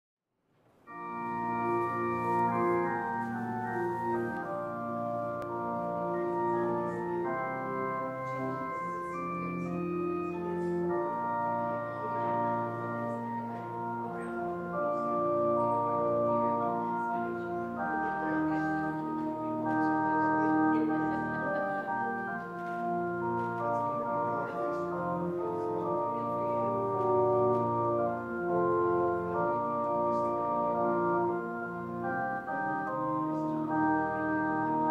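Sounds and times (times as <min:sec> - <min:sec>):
organ playing sustained chords: 0:00.8 - 0:34.9.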